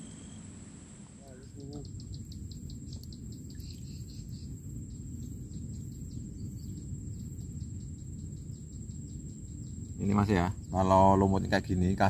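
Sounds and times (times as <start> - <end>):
insects chirping rapidly: 0.0 - 12.0
insects whining: 0.0 - 12.0
low rumble: 0.0 - 12.0.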